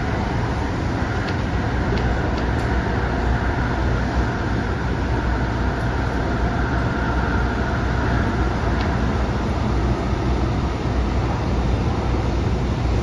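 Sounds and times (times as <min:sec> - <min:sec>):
faint train whine: 0:00.0 - 0:13.0
train wheels rumbling on rail: 0:00.0 - 0:13.0.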